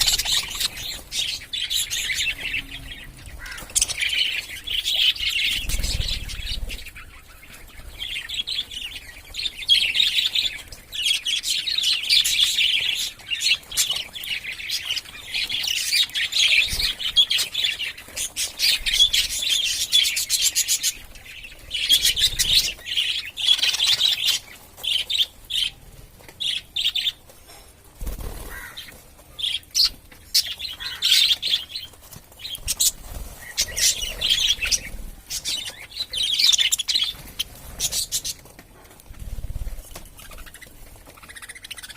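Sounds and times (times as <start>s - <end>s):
budgerigars chirping and warbling: 0.0s - 25.8s, 26.4s - 27.2s, 28.0s - 38.5s, 39.6s - 41.9s.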